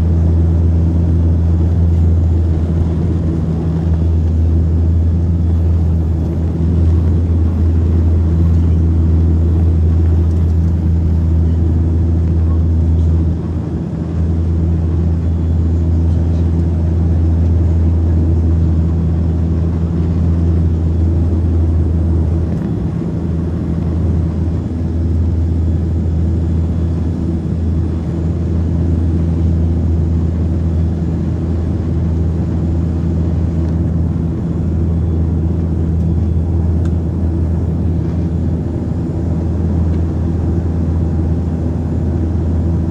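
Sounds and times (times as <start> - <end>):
propeller engines droning: 0.0 - 42.9.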